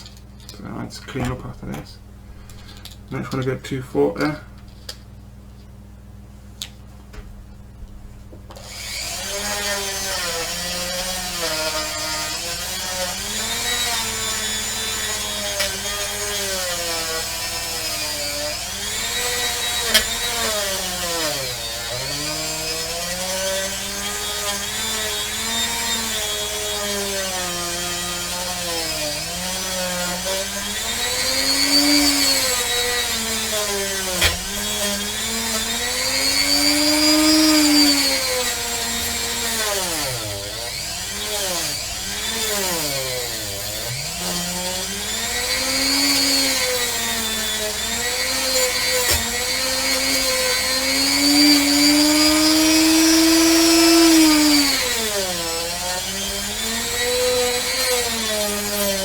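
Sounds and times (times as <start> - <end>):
rotary tool grinding metal: 8.6 - 59.0.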